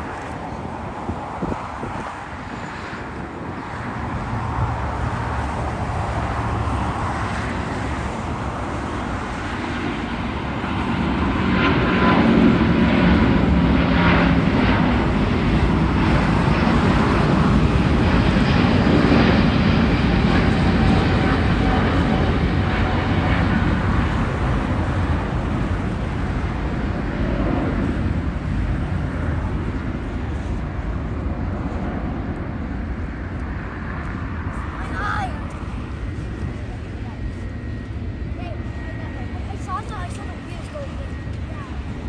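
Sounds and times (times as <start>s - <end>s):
jet engines at takeoff: 0.0s - 42.0s.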